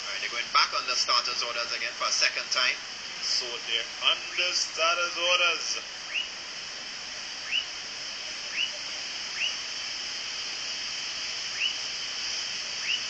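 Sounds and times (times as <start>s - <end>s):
steady crowd hiss: 0.0s - 13.0s.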